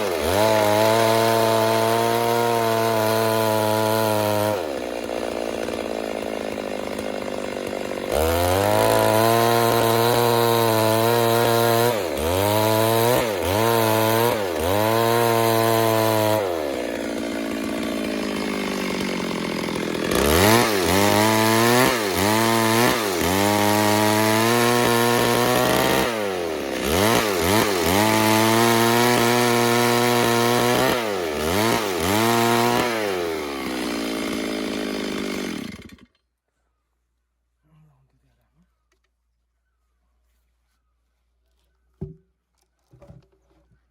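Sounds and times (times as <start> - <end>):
chainsaw cutting log: 0.0 - 36.2, 42.0 - 42.2.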